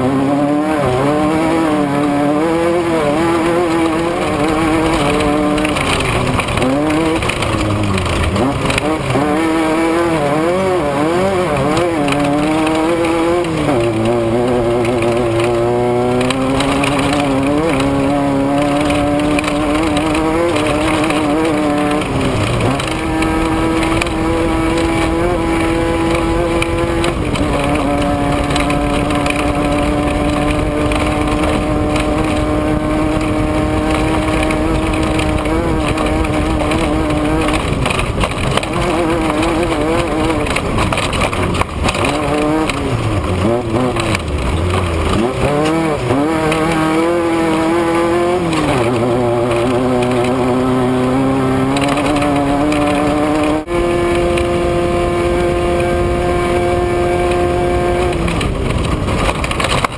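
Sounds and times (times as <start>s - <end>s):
race vehicle engine running hard: 0.0s - 59.9s.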